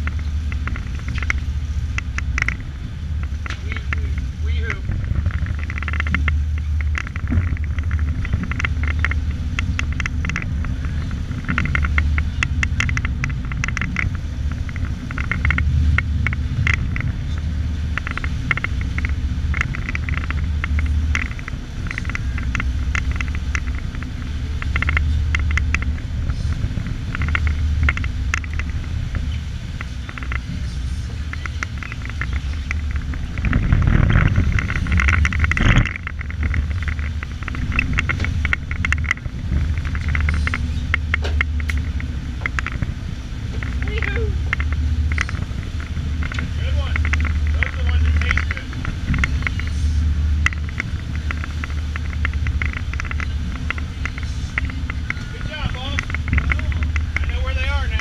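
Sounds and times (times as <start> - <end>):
boat engine rumbling: 0.0 - 58.0
clicks and crackles: 0.0 - 58.0.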